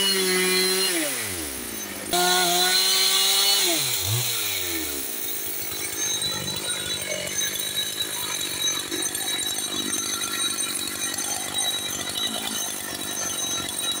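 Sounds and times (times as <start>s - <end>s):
chainsaw engine running: 0.0s - 14.0s.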